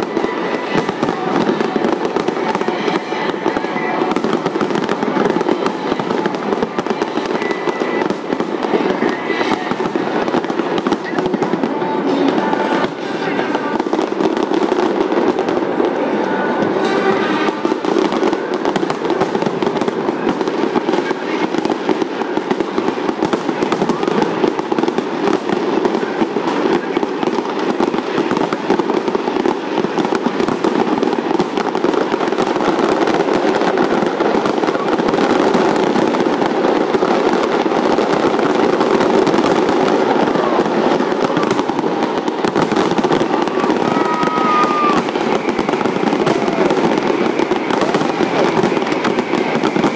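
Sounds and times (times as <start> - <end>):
fireworks banging and crackling: 0.0 - 49.9.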